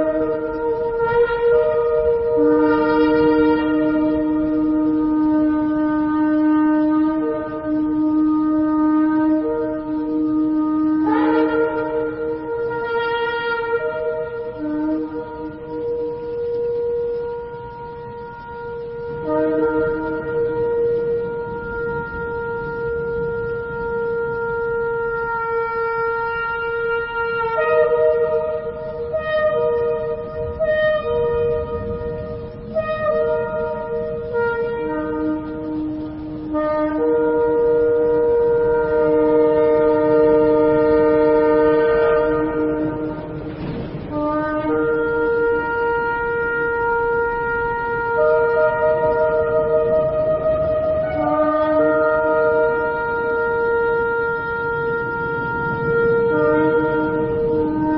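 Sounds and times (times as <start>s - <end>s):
higher shofar note: 0.0s - 57.9s
shofar long held note: 0.0s - 57.9s.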